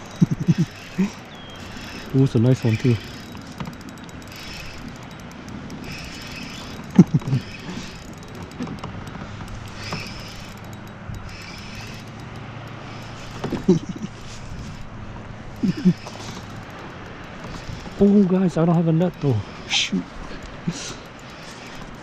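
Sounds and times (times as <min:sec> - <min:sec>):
fishing reel spinning: 0:00.0 - 0:22.0.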